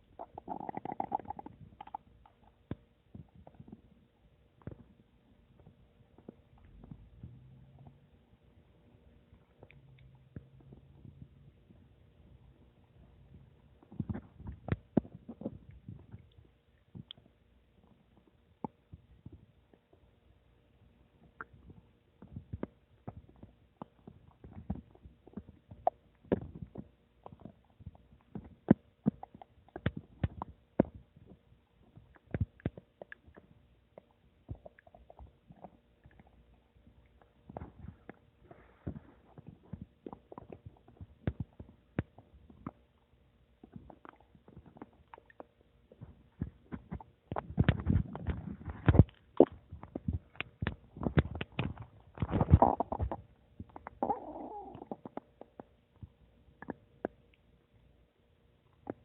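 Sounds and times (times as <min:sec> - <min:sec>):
stomach gurgling: 0:00.0 - 0:08.2, 0:09.3 - 0:20.1, 0:21.2 - 0:57.4, 0:58.7 - 0:59.0.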